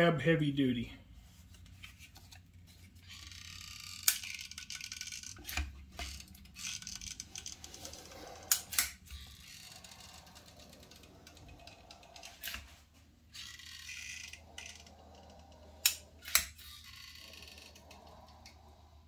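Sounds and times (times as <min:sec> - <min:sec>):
rubbing and handling noise: 0:01.0 - 0:03.2, 0:04.4 - 0:18.8.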